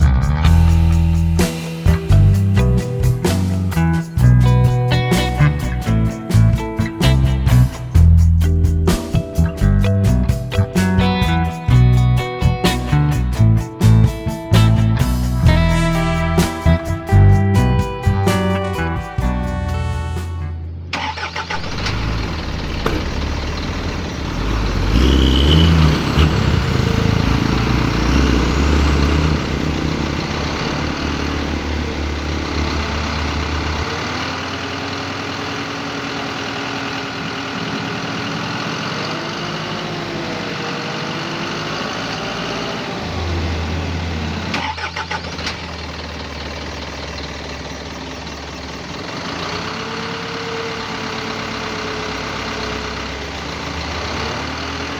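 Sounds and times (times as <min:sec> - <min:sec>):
diesel truck engine rumbling: 0:00.0 - 0:54.9.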